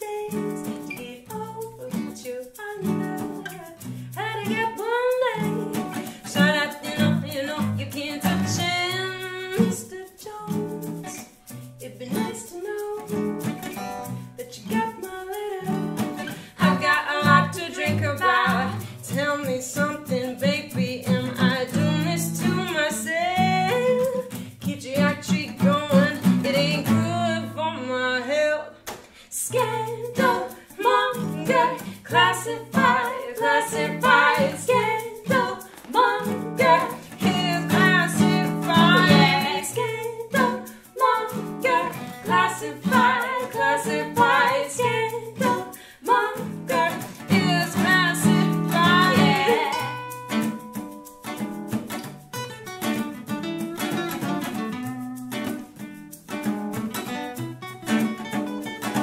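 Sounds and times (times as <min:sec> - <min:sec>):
hand shaker: 0:00.0 - 0:27.6, 0:29.3 - 0:59.0
strummed acoustic guitars: 0:00.0 - 0:59.0.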